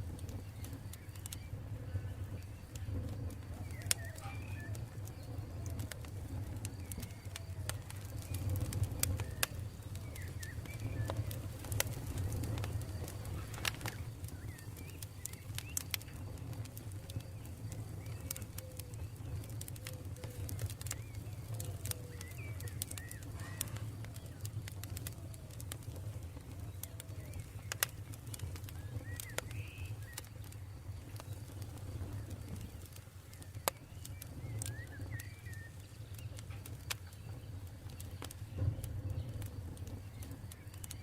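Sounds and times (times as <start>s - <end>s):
birds chirping: 0.0s - 41.0s
campfire crackling and popping: 0.0s - 41.0s.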